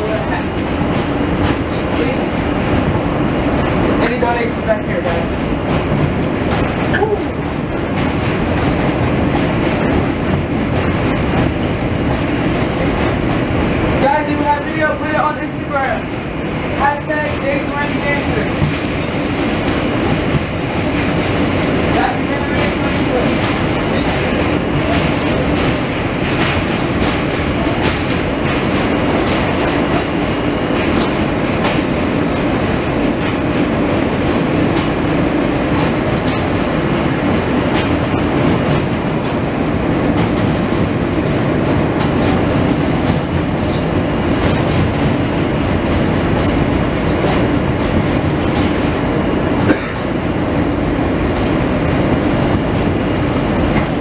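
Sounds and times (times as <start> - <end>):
wheels clicking over rail joints: 0.0 - 15.8, 17.0 - 54.0
subway train rumble and rattle: 0.0 - 54.0.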